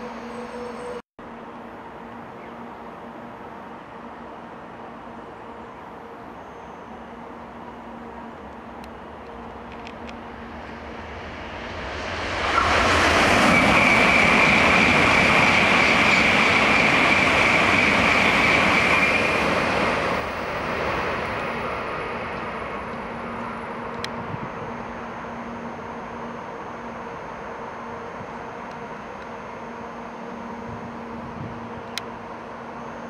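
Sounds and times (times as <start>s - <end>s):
high-speed train passing: 0.0s - 33.0s.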